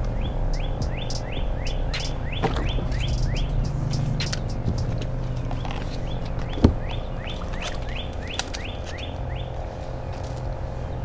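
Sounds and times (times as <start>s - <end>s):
bird chirping: 0.0s - 11.0s
steady low hum: 0.0s - 11.0s.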